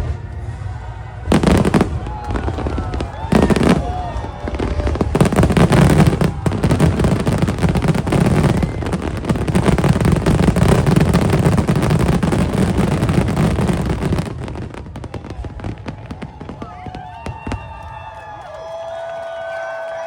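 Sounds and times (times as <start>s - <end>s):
fireworks bursting: 0.0s - 18.1s.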